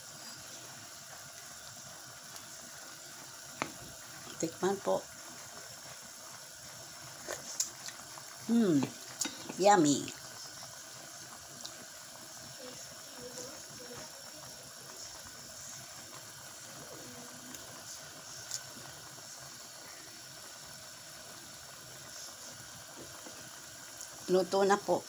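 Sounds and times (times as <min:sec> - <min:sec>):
sauce simmering and bubbling: 0:00.0 - 0:25.0.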